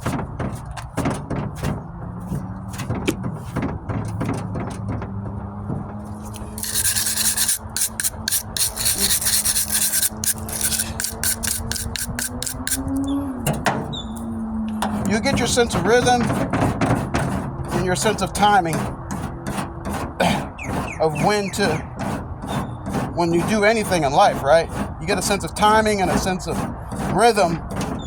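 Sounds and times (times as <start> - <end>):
blade rasping body filler: 0.0 - 5.2, 6.1 - 13.0, 14.8 - 28.0.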